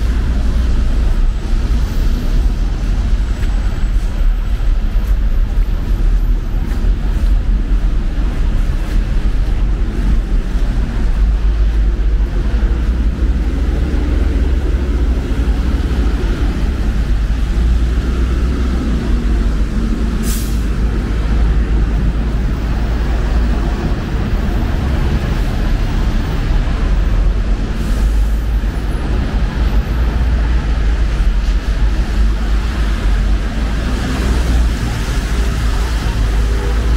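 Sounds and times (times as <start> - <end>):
rumble of passing vehicles: 0.0 - 36.9.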